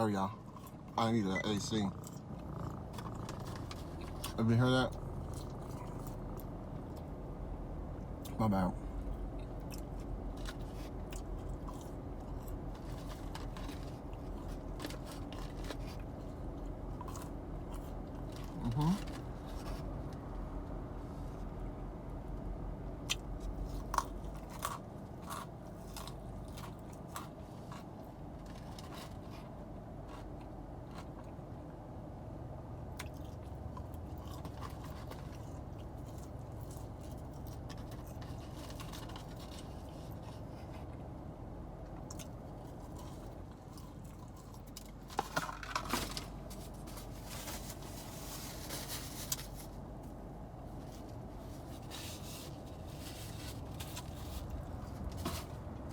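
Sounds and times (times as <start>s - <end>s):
chewing and crunching food: 0.0s - 55.9s
low background hum: 0.0s - 55.9s.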